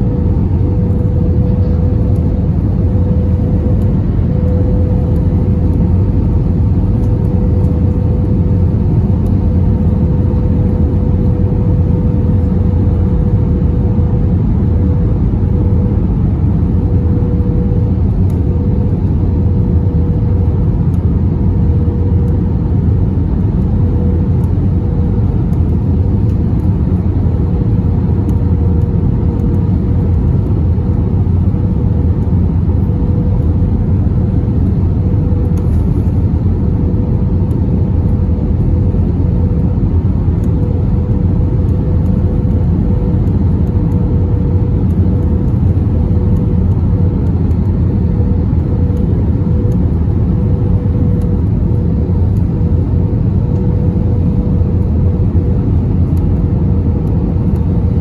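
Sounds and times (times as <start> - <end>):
jet engine drone: 0.0 - 58.0
steady cabin hum: 0.0 - 58.0.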